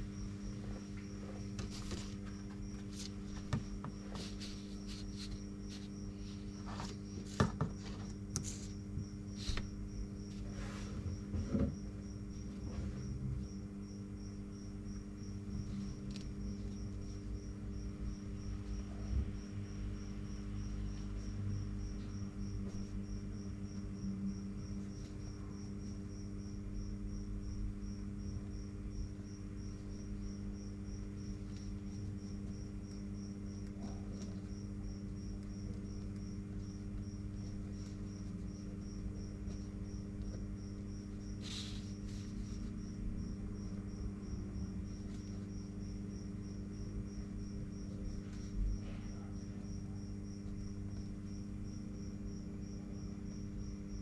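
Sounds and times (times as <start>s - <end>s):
cricket chirping: 0.0s - 54.0s
low electrical hum: 0.0s - 54.0s.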